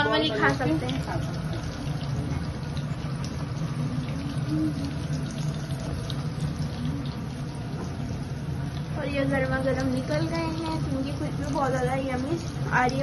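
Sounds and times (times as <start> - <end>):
food deep-frying in oil: 0.0 - 13.0
low steady hum: 0.0 - 13.0
oil crackling and popping: 0.3 - 13.0.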